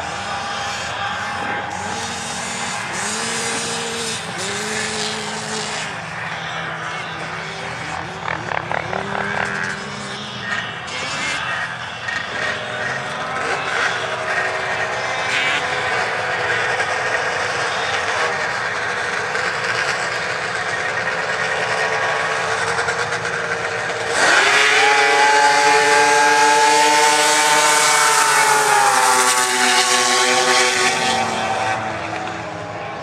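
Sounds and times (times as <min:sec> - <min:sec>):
snowmobile engines at full throttle: 0:00.0 - 0:33.0.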